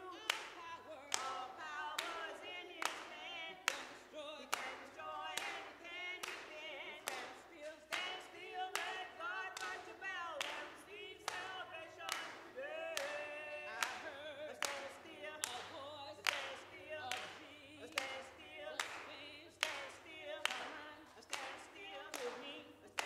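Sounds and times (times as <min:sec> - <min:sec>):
group singing a cappella: 0:00.0 - 0:23.0
sharp handclaps: 0:00.1 - 0:23.0.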